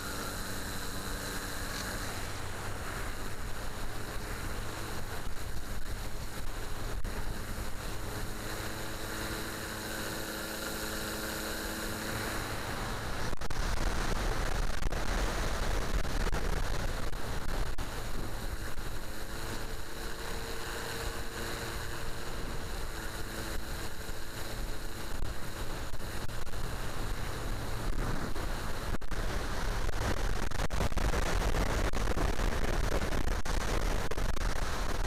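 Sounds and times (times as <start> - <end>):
wind rush on microphone: 0.0 - 35.0.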